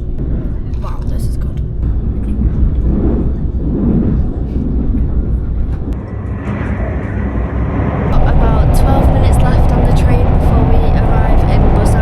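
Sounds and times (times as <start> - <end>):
high-speed train cabin rumble: 0.0 - 12.0.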